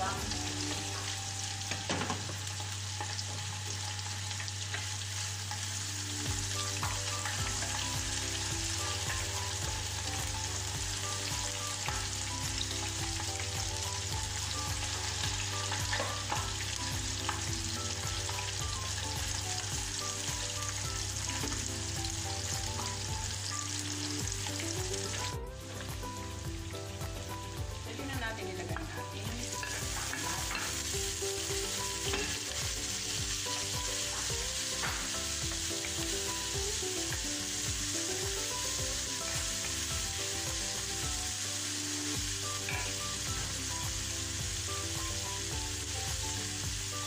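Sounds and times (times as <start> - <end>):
onion sizzling in hot oil: 0.0 - 47.0.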